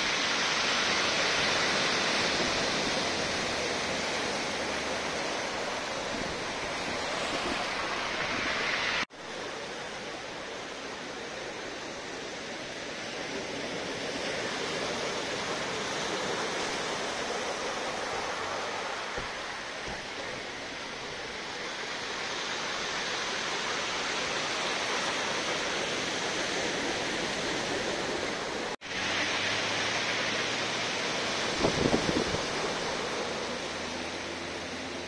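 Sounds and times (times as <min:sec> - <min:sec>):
sea waves breaking on beach: 0:00.0 - 0:35.0.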